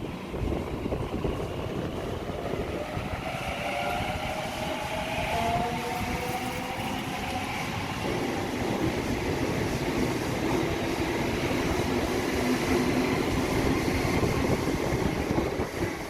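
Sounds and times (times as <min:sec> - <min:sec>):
electric train rumbling: 0:00.0 - 0:16.0
train motor whine: 0:01.2 - 0:15.6.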